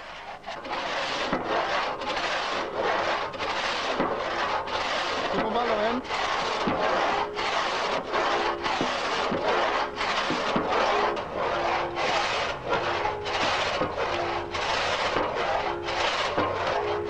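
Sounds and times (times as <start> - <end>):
hand saw rasping strokes: 0.0 - 17.0.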